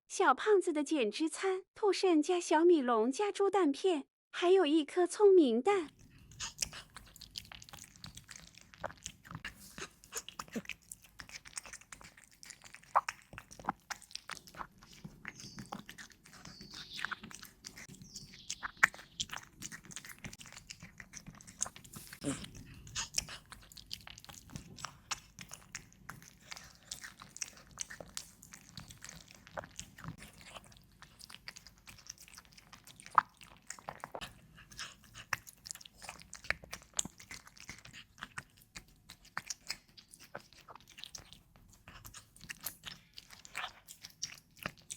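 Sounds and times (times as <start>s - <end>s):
cat chewing food: 5.9s - 44.9s.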